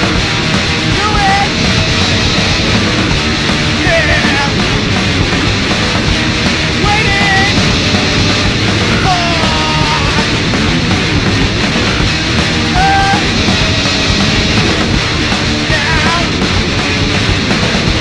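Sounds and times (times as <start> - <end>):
punk rock band playing: 0.0 - 18.0.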